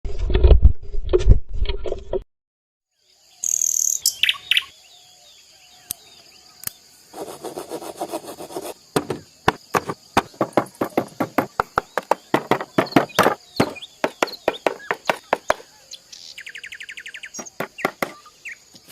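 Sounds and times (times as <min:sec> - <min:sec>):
high insect whine: 0:03.0 - 0:18.9
small birds chirping: 0:03.0 - 0:18.9.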